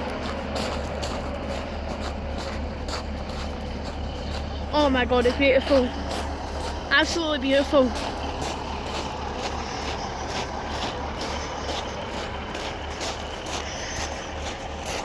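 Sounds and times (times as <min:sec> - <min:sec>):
train engines idling: 0:00.0 - 0:15.0.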